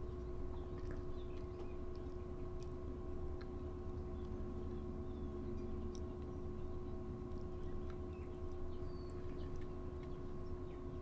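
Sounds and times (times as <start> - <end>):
electrical hum with low rumble: 0.0 - 11.0
faint high chirps and ticks: 0.0 - 11.0.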